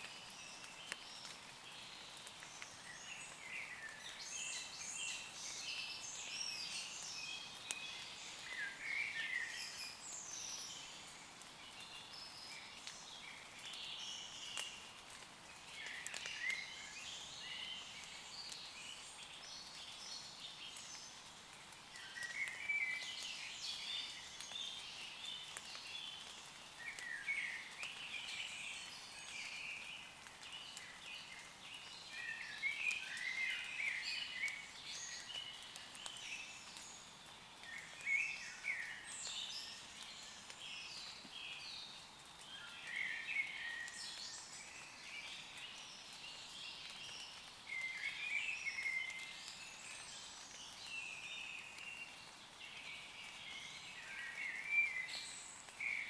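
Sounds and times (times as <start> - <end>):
light rain on leaves: 0.0 - 56.0
songbirds singing and chirping: 0.0 - 56.0.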